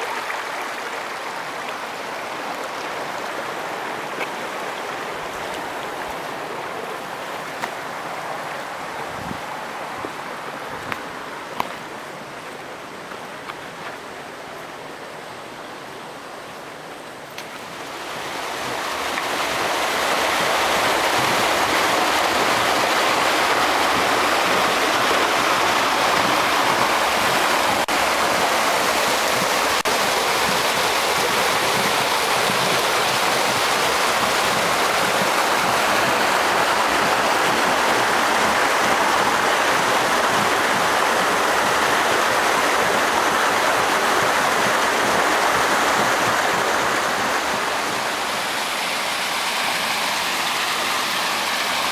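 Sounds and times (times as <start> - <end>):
creek water rushing over boulders: 0.0 - 51.9.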